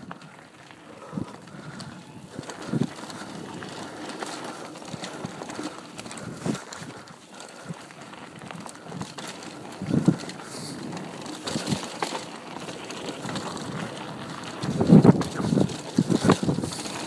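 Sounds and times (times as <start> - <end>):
bike rattling over bumps: 0.0 - 17.0
bike tyres crunching on dirt: 0.0 - 17.0.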